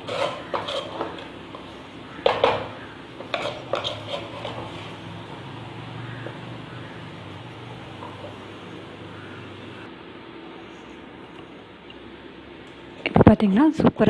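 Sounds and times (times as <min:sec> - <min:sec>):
spoon scraping clay pot: 0:00.0 - 0:09.9, 0:10.5 - 0:12.2.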